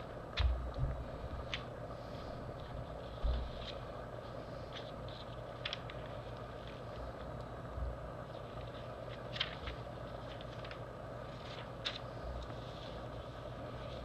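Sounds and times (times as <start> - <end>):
low background hum: 0.0 - 14.0
newspaper pages rustling: 1.4 - 7.5, 8.2 - 14.0
paper crackling: 1.4 - 14.0.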